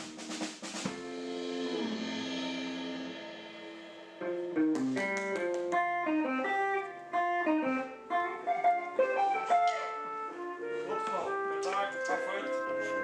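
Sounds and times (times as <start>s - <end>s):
instrumental band music: 0.0s - 13.0s
guitar melodic line: 0.9s - 3.1s, 4.2s - 13.0s.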